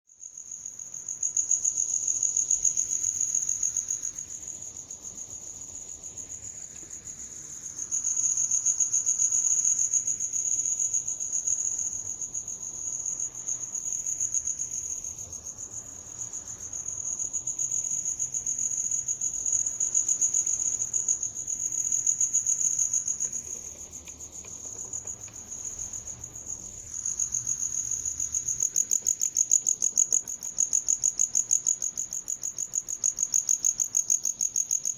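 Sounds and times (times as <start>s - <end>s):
cricket trilling: 0.3s - 34.9s.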